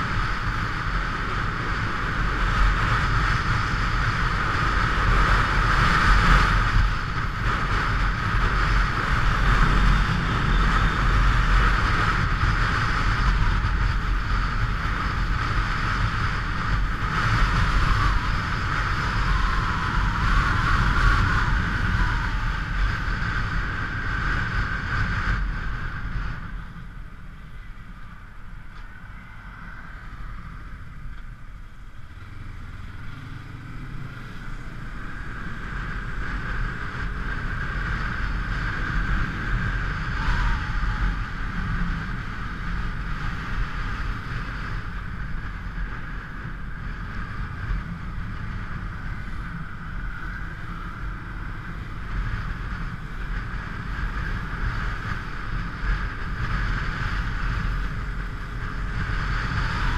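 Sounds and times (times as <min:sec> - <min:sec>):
motorcycle engine running: 0:00.0 - 0:27.9, 0:30.1 - 0:59.9
wind rushing over microphone: 0:00.0 - 0:59.9.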